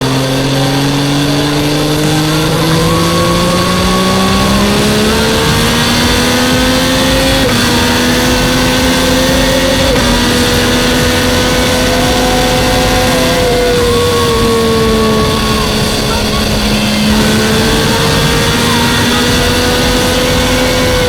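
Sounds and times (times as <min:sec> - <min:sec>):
motorcycle engine climbing in pitch: 0:00.0 - 0:21.0.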